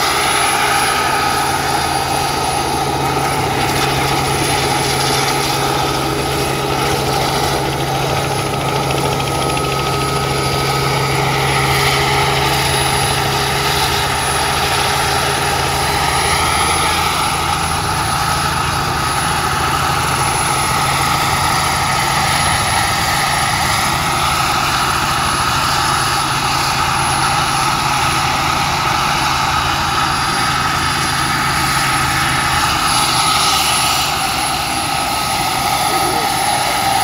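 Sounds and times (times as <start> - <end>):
model helicopter engine running: 0.0 - 37.0.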